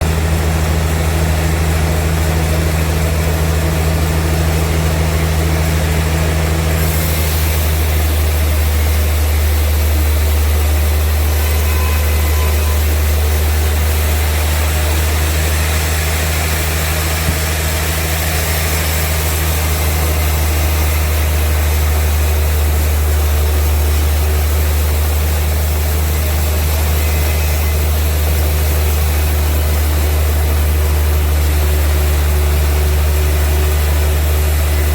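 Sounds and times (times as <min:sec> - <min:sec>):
sawmill machinery droning: 0:00.0 - 0:34.9.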